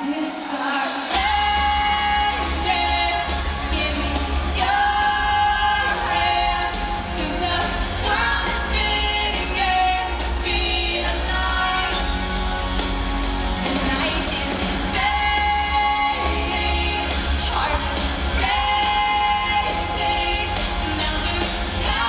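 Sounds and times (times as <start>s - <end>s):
woman singing into a microphone: 0.0s - 12.6s, 13.7s - 22.0s
keyboard: 0.0s - 22.0s.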